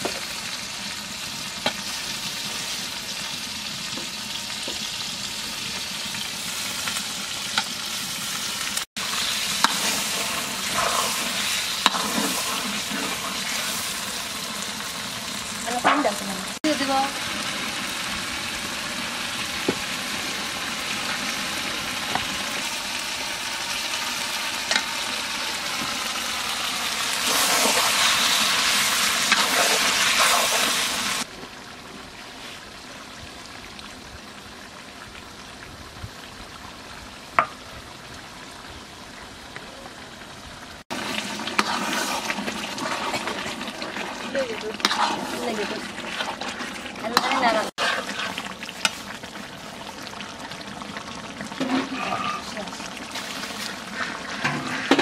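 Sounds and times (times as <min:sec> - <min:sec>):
curry sizzling in a wok: 0:00.0 - 0:55.0.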